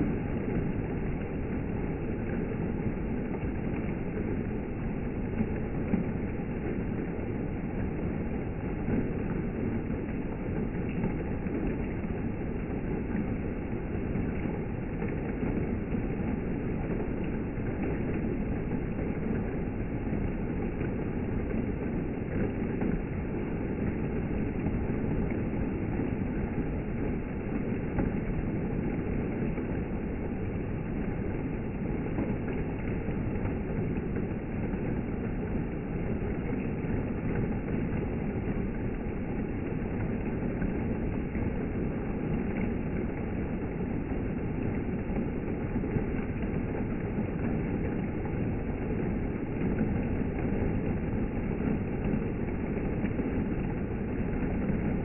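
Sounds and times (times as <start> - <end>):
rain and wind rushing: 0.0 - 55.0.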